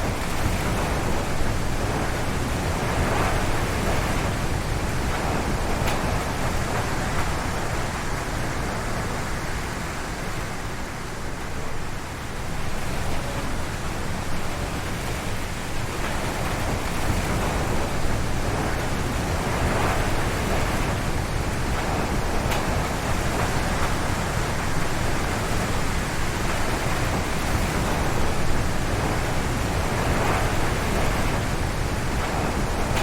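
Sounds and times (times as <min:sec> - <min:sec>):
wind gusting through trees: 0:00.0 - 0:33.0.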